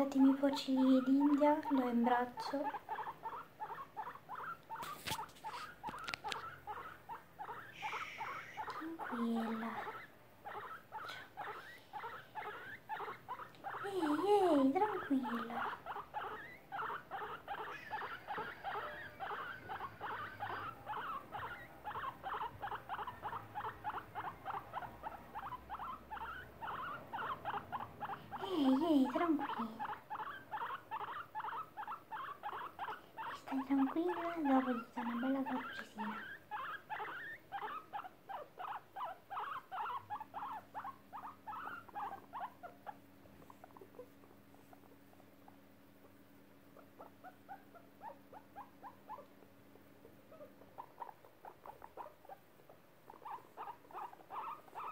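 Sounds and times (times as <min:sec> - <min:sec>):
guinea pig squeaking: 0:00.0 - 0:54.9.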